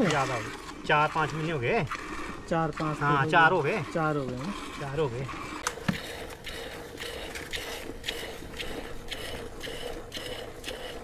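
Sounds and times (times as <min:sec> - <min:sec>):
milk squirting into metal bucket: 0:00.0 - 0:11.0.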